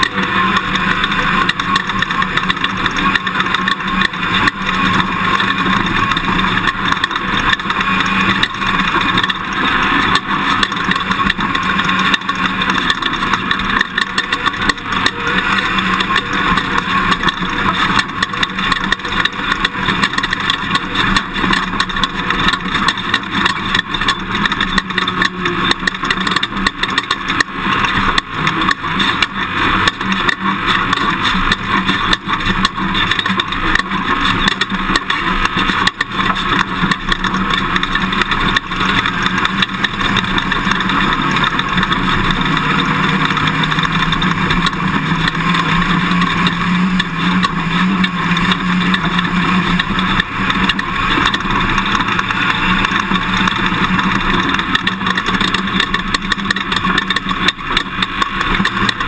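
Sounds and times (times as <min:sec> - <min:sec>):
knocks and jolts over bumps: 0:00.0 - 0:59.0
truck engine and tyre noise: 0:00.0 - 0:59.0.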